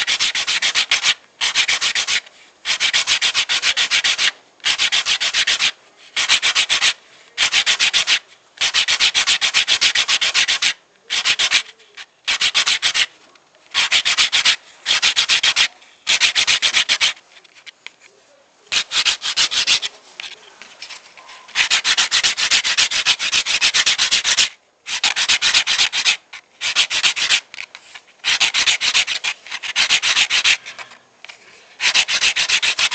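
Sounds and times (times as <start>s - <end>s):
sandpaper rasping on wood: 0.0s - 17.6s, 18.7s - 31.0s, 31.8s - 32.9s.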